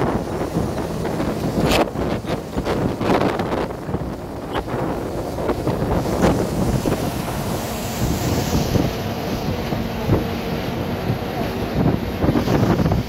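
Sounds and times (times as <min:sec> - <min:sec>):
bus road and wind noise: 0:00.0 - 0:13.0.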